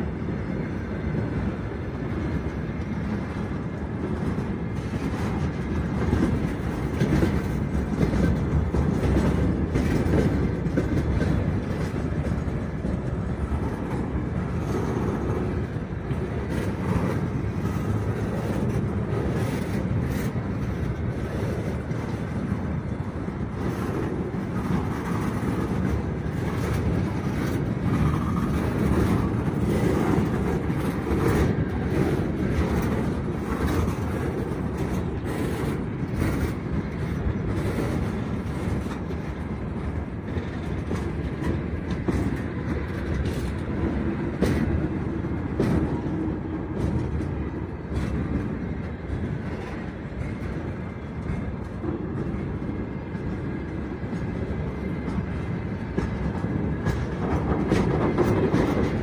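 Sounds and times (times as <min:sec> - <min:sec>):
train wheels rumbling on rails: 0:00.0 - 0:59.0
wheels and couplings knocking: 0:02.1 - 0:59.0.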